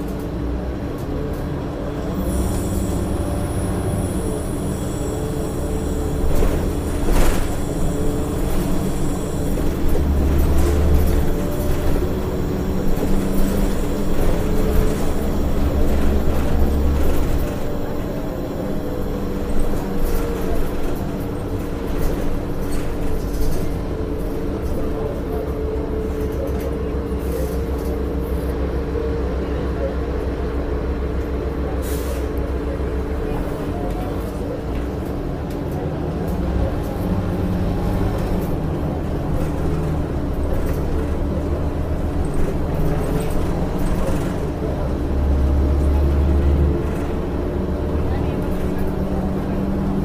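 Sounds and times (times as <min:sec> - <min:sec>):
bus diesel engine droning: 0:00.0 - 0:50.0.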